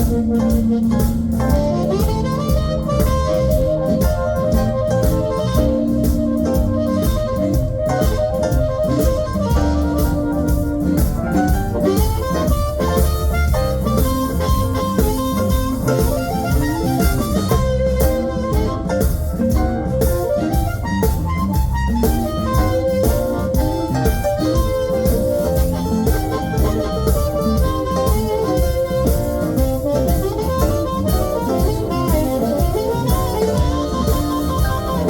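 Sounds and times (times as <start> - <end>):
drum beat: 0.0 - 35.0
guitar: 0.0 - 35.0
keyboard: 0.0 - 35.0.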